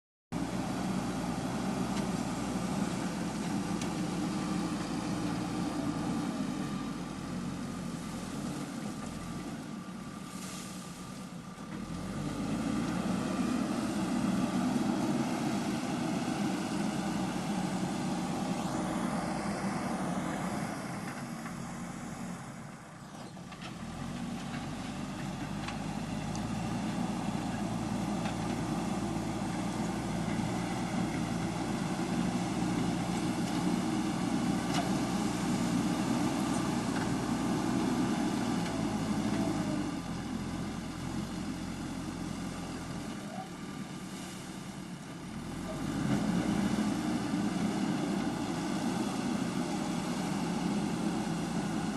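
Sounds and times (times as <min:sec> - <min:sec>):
diesel engine running: 0:00.3 - 0:51.9.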